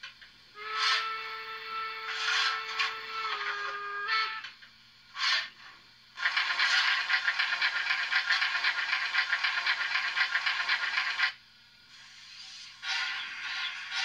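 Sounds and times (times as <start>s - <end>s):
rattling scraping hiss: 0.0s - 14.0s.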